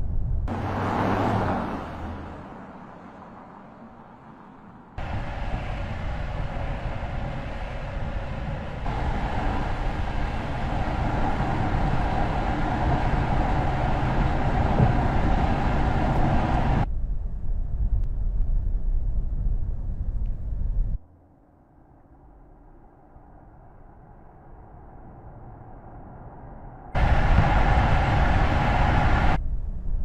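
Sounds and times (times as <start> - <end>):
vehicle road noise and rumble: 0.0 - 30.0.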